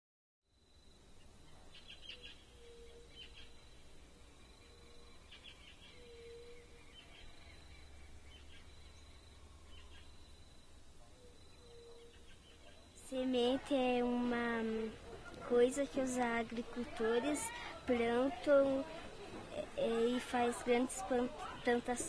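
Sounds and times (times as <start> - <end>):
small birds chirping: 1.1 - 22.0.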